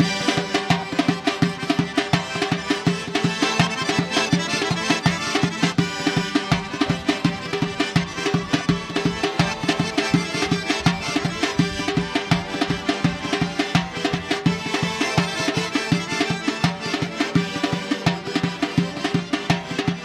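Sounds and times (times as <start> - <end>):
folk dance music: 0.0 - 20.0.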